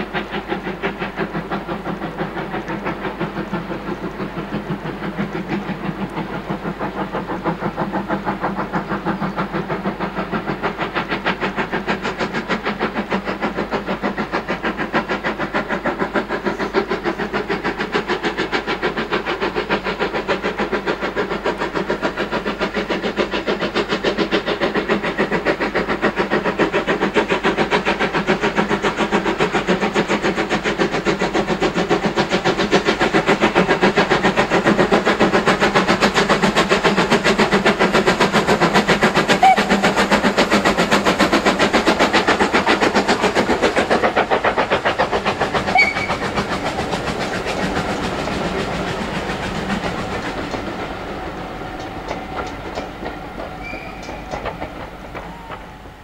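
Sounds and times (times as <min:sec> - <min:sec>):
train running by: 0:00.0 - 0:56.0.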